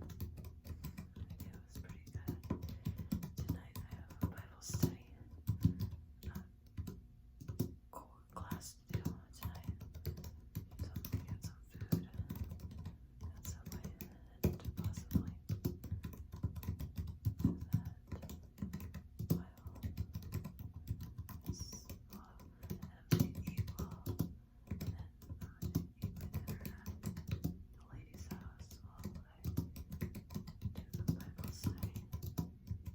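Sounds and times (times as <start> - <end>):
typing on computer keyboard: 0.0 - 7.7, 8.4 - 32.9.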